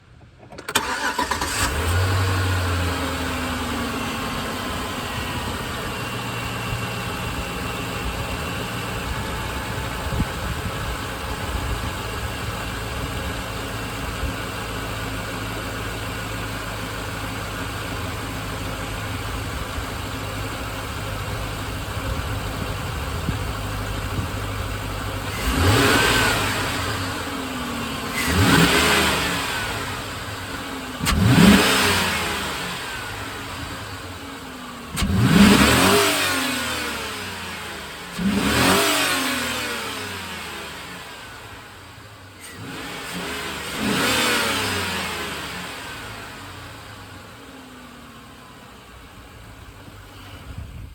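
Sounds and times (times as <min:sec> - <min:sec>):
truck engine idling and revving: 0:00.0 - 0:50.9.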